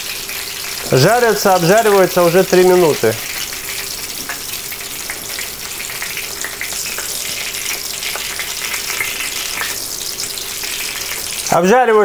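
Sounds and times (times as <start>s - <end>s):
oil sizzling and crackling: 0.0s - 11.7s.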